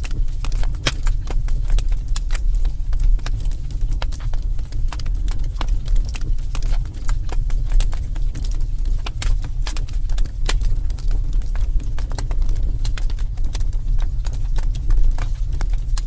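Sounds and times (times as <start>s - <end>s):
low fire rumble: 0.0s - 16.0s
wood fire crackling: 0.0s - 16.0s.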